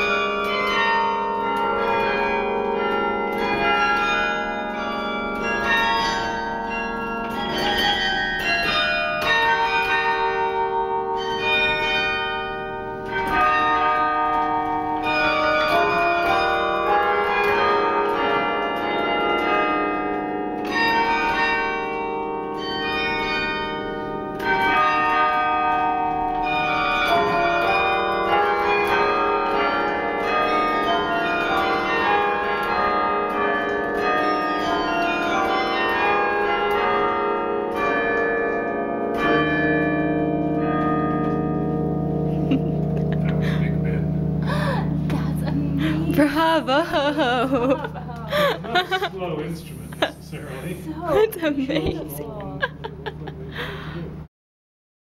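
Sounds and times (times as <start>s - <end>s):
carillon bells playing melody: 0.0s - 54.0s.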